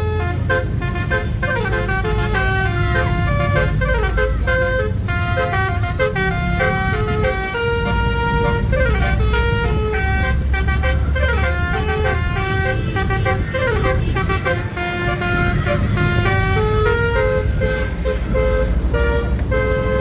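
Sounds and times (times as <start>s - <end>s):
low engine rumble: 0.0s - 20.0s
musical bus horn melody: 0.0s - 20.0s.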